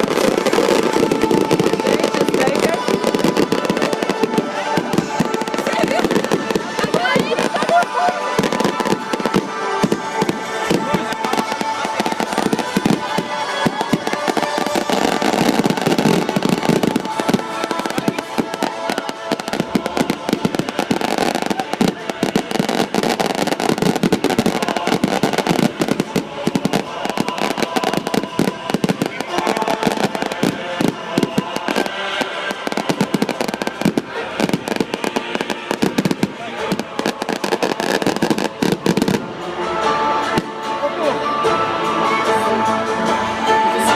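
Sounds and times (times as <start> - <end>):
fireworks crackling and popping: 0.0 - 41.1
murmur of voices: 0.0 - 43.9
music: 0.0 - 43.9.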